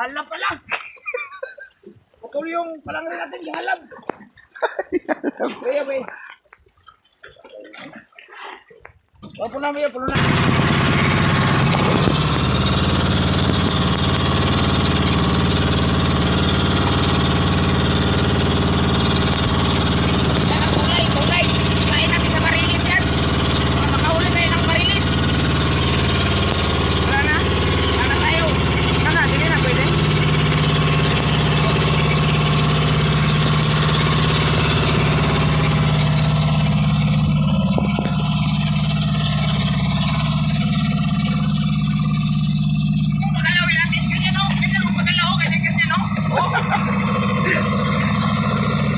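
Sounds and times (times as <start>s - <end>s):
boat engine running steadily: 7.7s - 48.9s.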